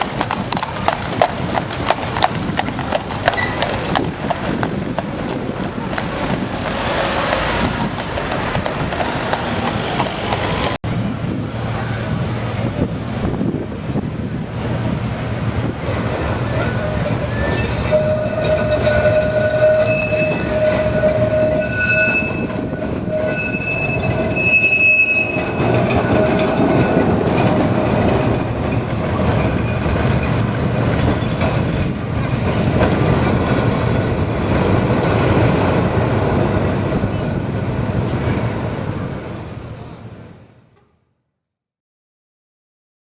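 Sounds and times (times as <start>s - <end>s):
tram wheels squealing: 0.0s - 10.8s, 15.8s - 40.3s
tram wheels rumbling on track: 0.0s - 40.9s.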